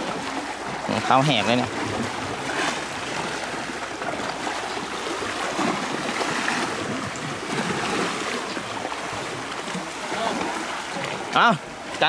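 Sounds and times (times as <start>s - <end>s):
waves breaking on the shore: 0.0s - 12.0s.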